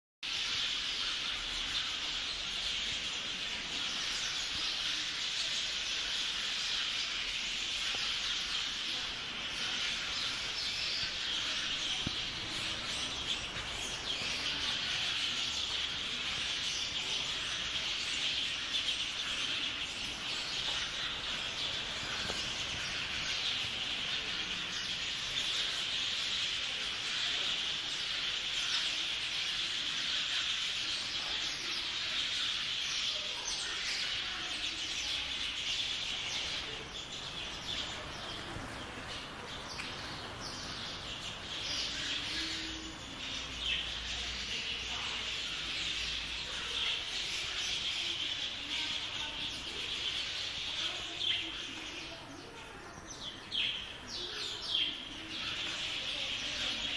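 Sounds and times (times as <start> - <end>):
flock of small birds chirping: 0.2 - 56.9.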